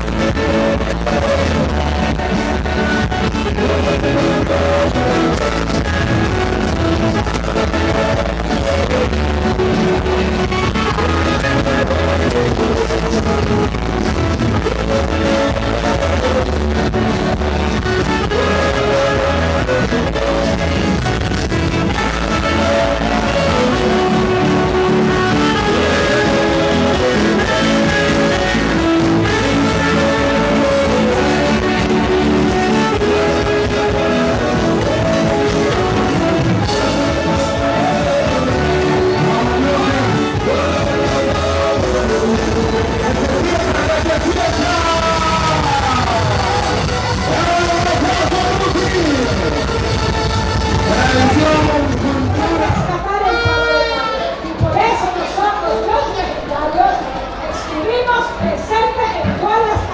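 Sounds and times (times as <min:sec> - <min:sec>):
dance music with guitar: 0:00.0 - 0:53.6.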